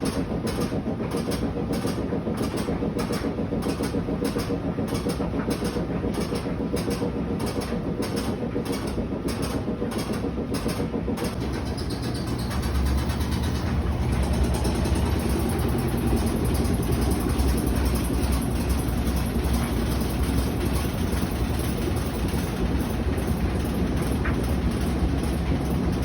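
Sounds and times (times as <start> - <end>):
rapid knocking: 0.0 - 26.0
washing machine spinning: 0.0 - 26.0.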